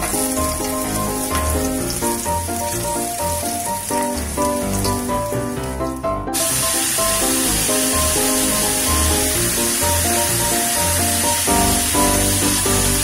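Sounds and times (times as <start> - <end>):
meat hitting hot pan: 0.0 - 5.3, 6.4 - 13.0
garlic sizzling in oil: 0.0 - 13.0
light melodic background music: 0.0 - 13.0.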